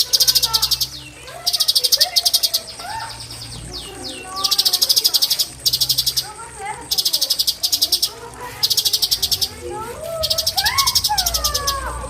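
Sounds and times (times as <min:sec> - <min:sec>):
rapid high chirping pulses: 0:00.0 - 0:12.0.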